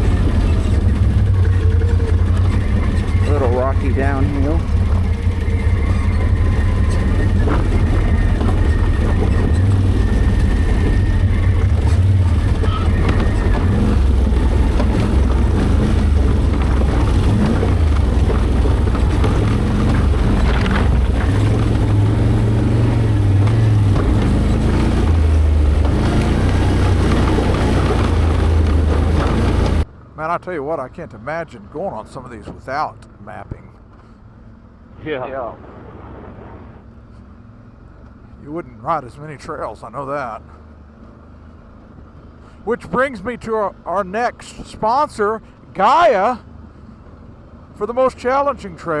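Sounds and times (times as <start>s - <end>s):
atv engine rumbling: 0.0s - 49.0s.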